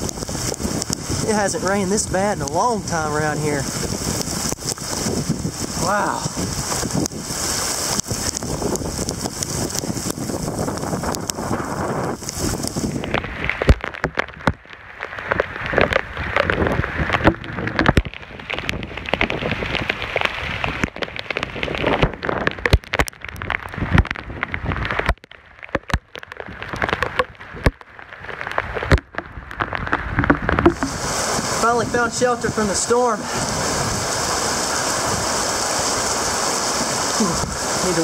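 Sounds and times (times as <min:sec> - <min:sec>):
heavy rain pelting down: 0:00.0 - 0:38.0.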